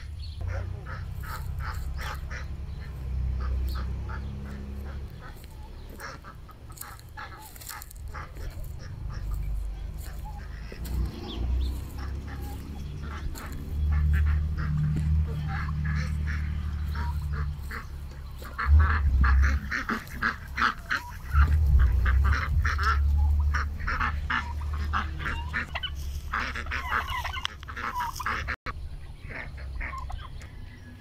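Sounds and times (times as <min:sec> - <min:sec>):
ducks quacking: 0:00.0 - 0:31.0
low rumbling noise: 0:00.0 - 0:31.0.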